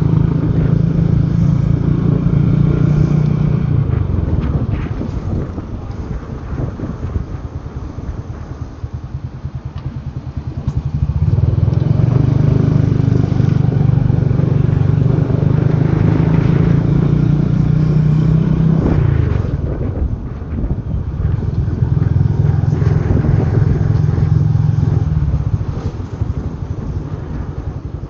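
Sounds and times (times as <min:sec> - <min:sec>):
motorbike engine running: 0:00.0 - 0:28.0.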